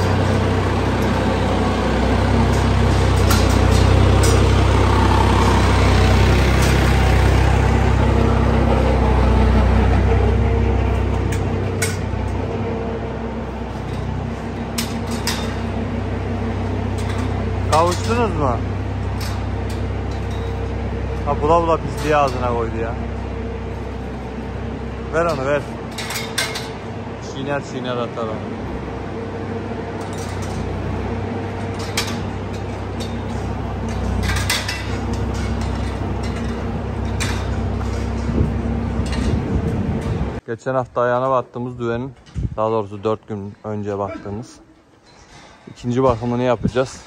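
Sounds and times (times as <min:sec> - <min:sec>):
low engine hum: 0:00.0 - 0:40.4.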